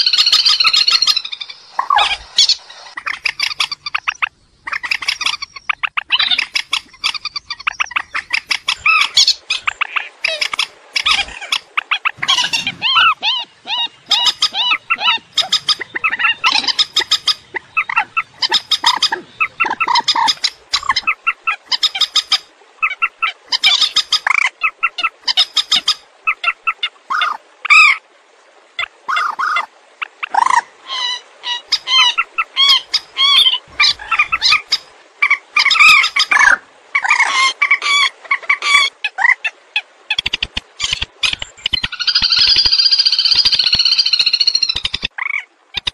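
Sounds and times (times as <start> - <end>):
swamphens calling: 0.0 - 28.0, 28.8 - 39.4, 40.1 - 45.9.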